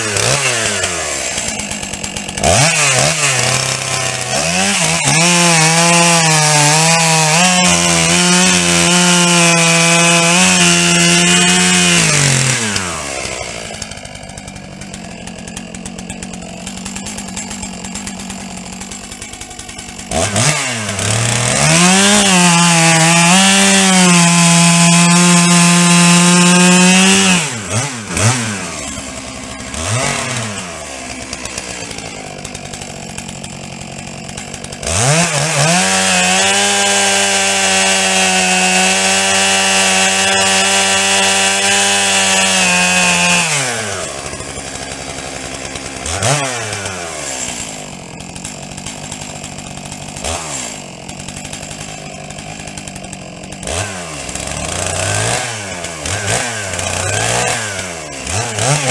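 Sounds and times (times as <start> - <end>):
chainsaw revving and cutting wood: 0.0 - 58.9.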